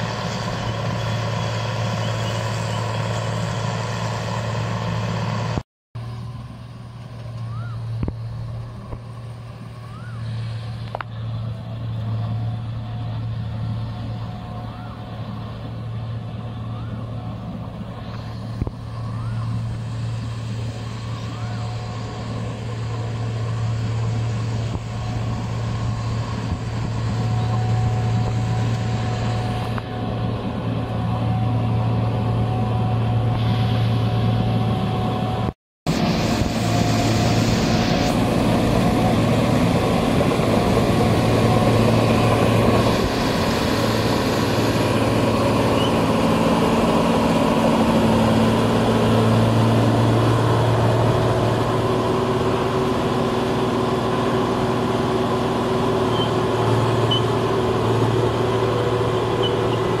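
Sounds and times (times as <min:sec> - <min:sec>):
diesel engine running under load: 0:00.0 - 1:00.0.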